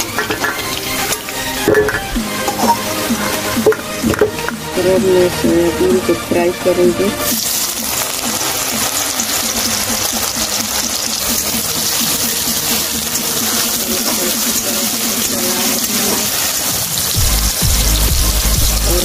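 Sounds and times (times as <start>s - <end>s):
food sizzling in hot oil: 0.0s - 4.5s, 7.2s - 19.0s.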